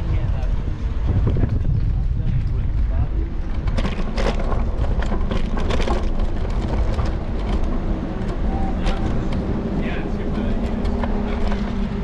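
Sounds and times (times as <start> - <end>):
wind and road rumble: 0.0 - 12.0.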